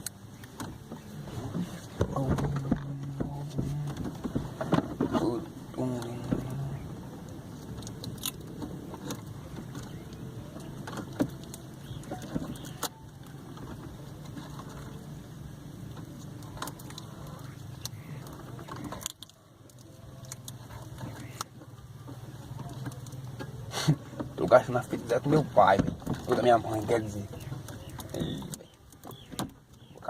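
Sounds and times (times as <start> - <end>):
handling noises: 0.0 - 30.0.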